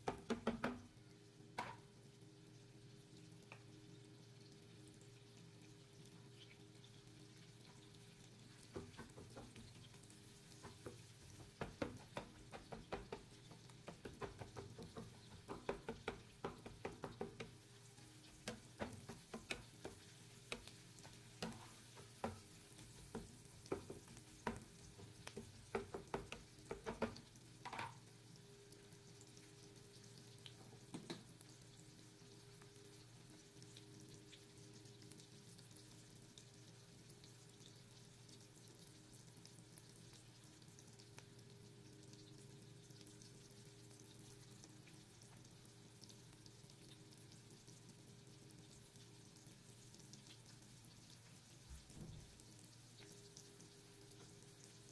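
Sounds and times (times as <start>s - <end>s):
meat sizzling in oil: 0.1s - 54.9s.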